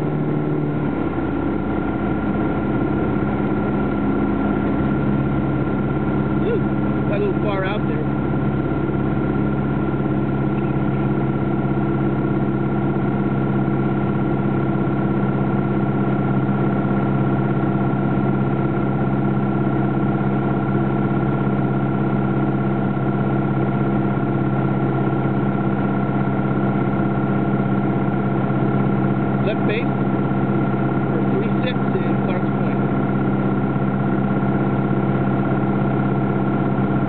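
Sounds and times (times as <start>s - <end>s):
light aircraft engine droning: 0.0s - 37.0s.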